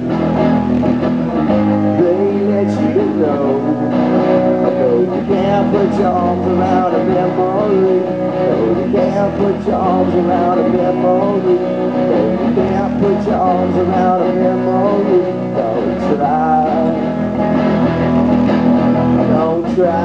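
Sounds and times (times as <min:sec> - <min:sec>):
electric guitar: 0:00.0 - 0:20.0
live rock band playing: 0:00.0 - 0:20.0
person singing: 0:01.8 - 0:17.5, 0:19.1 - 0:20.0.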